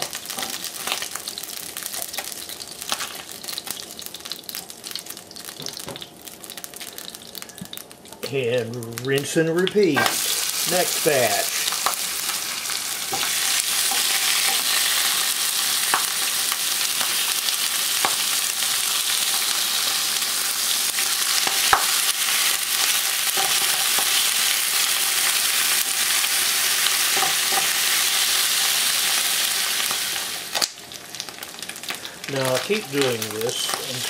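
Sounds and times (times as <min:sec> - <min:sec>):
meat sizzling in oil: 0:00.0 - 0:34.0.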